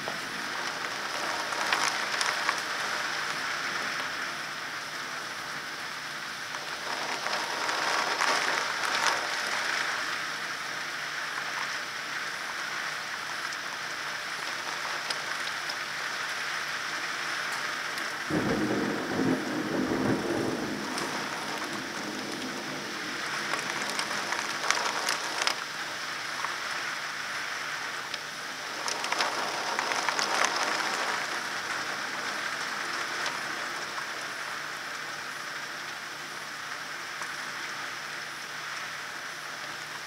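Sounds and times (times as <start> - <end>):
heavy rain through leaves: 0.0 - 40.0.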